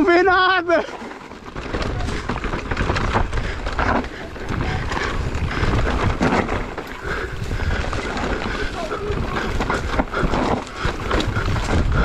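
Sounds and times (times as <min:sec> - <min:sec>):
bike rattling over bumps: 0:00.0 - 0:12.0
bike tyres crunching on dirt: 0:00.0 - 0:12.0
wind on microphone: 0:01.6 - 0:12.0.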